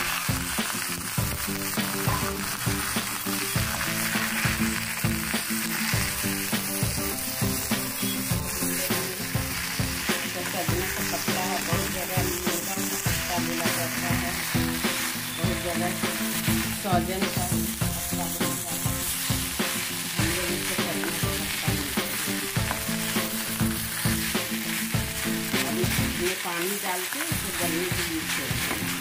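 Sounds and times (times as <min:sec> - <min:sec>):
leaves sizzling in a pan: 0:00.0 - 0:29.0.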